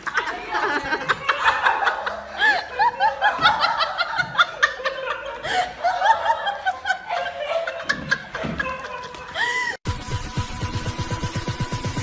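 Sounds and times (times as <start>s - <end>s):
person laughing high-pitched: 0.0s - 9.8s.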